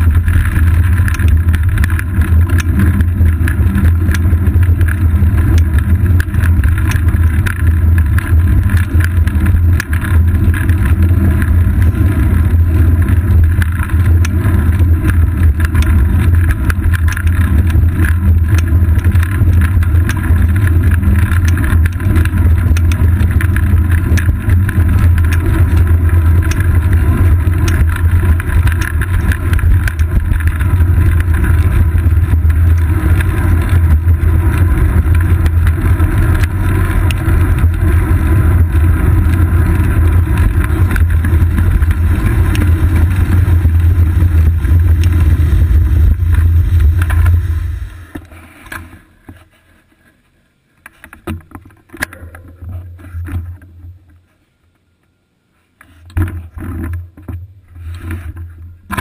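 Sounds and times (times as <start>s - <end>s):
wind rumble: 0.0s - 48.9s
small clicks and rattles: 0.0s - 49.5s
road vibration: 0.0s - 49.7s, 55.8s - 59.0s.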